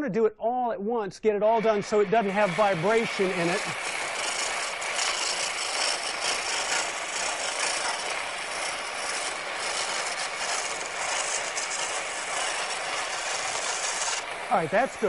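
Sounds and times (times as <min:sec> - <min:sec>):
gouge scraping spinning wood: 0:01.5 - 0:15.0.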